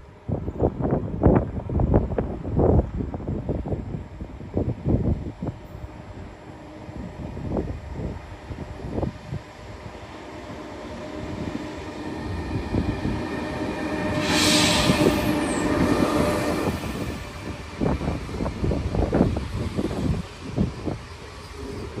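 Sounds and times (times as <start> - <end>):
high-speed train passing: 0.0 - 22.0
wind buffeting microphone: 0.0 - 22.0.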